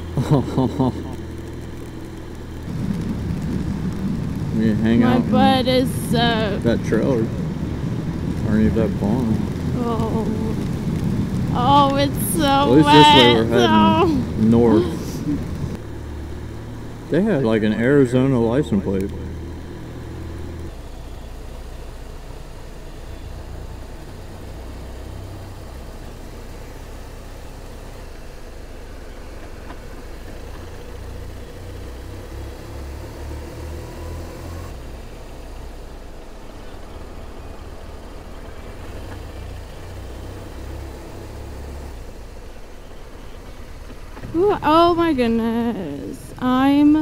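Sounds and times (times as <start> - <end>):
motorcycle engine: 0.0 - 47.0
wet road noise: 0.0 - 47.0.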